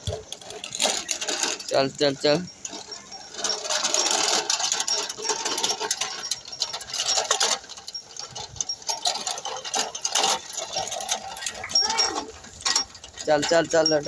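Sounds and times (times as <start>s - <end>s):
toy tractor wheels rattling and scraping: 0.0s - 14.0s.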